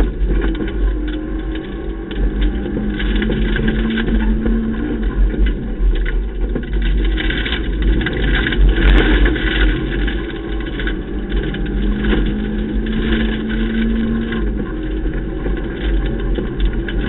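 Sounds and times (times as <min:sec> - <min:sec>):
car engine running loud: 0:00.0 - 0:17.0
tyres rumbling on gravel: 0:00.0 - 0:17.0.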